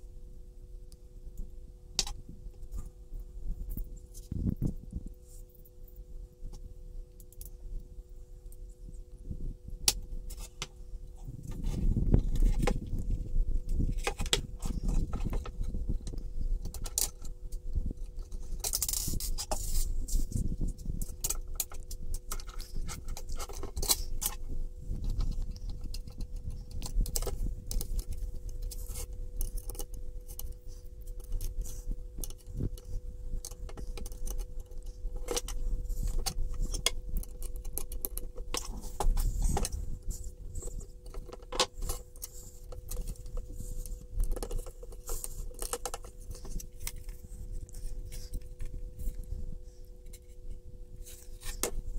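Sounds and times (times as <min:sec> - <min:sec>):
steady hum: 0:00.0 - 0:51.9
plastic parts clicking and scraping: 0:09.8 - 0:51.9.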